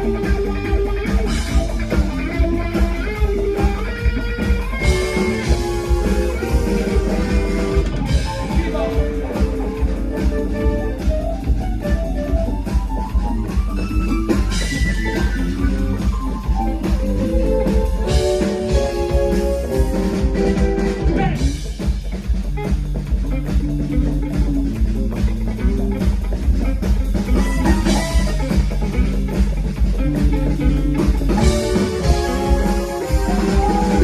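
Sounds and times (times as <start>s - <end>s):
bass: 0.0s - 34.0s
drum kit beat: 0.0s - 34.0s
electric guitar: 0.0s - 34.0s.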